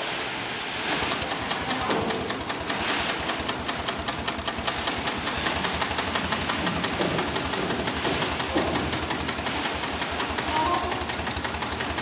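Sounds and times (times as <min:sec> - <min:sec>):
sewing machine clattering: 0:00.8 - 0:12.0.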